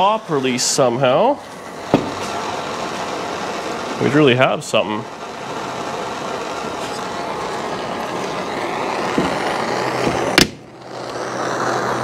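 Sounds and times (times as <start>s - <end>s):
heating tool hissing: 0.0s - 12.0s.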